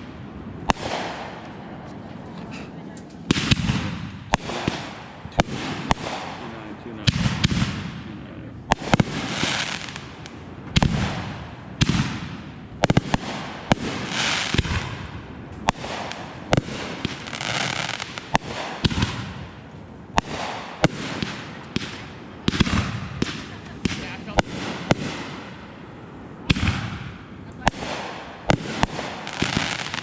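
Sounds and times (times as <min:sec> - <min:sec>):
fireworks bangs: 0:00.0 - 0:30.0
fireworks crackling and hissing: 0:00.0 - 0:30.0.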